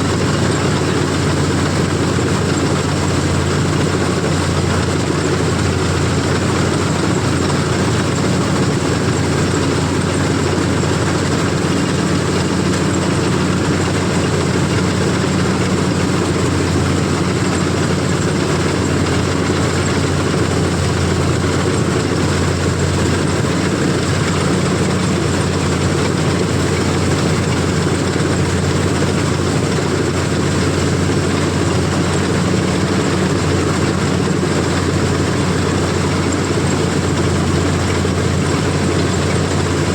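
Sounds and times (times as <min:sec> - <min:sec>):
combine harvester engine drone: 0:00.0 - 0:39.9
harvesting machinery clatter: 0:00.0 - 0:39.9.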